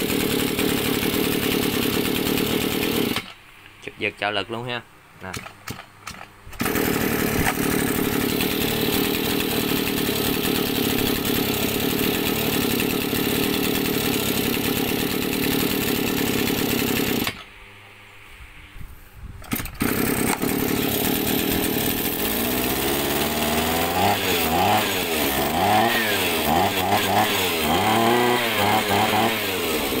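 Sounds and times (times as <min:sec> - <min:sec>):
brush-cutter engine running: 0:00.0 - 0:03.4, 0:05.2 - 0:17.5, 0:19.5 - 0:30.0
recoil starter pull: 0:00.0 - 0:03.4, 0:05.2 - 0:17.5, 0:19.4 - 0:30.0.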